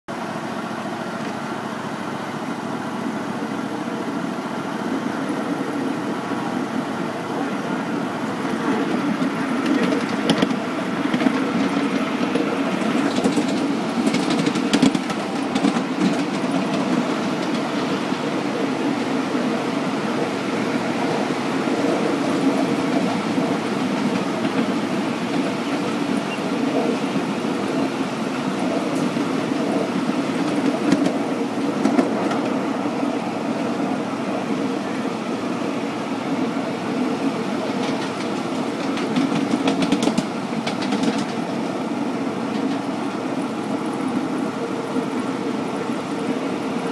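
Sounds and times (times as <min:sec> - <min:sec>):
diesel locomotive engine idling: 0:00.1 - 0:46.9
wheels rumbling on rails: 0:00.1 - 0:46.9.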